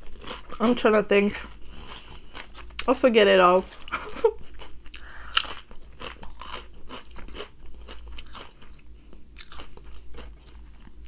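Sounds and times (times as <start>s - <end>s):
person chewing crunchy food: 0.0s - 2.9s, 3.6s - 11.0s.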